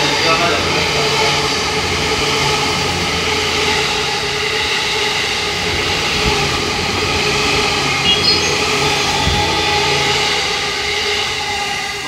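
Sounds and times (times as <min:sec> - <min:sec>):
electric train passing: 0:00.0 - 0:12.0
wheels running on rail: 0:00.0 - 0:12.0.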